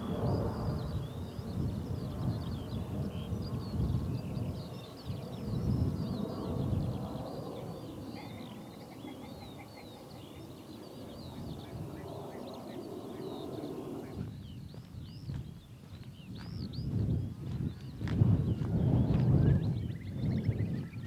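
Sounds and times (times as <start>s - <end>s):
songbirds chirping and trilling: 0.0s - 21.0s
wind buffeting microphone: 0.0s - 21.0s.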